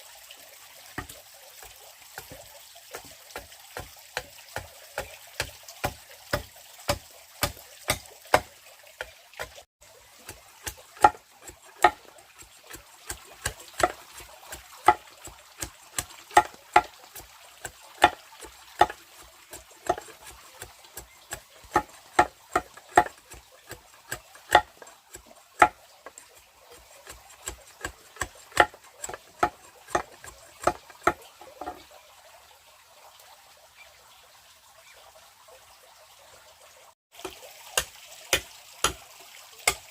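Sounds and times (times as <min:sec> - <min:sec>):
faint trickle of water: 0:00.0 - 0:39.9.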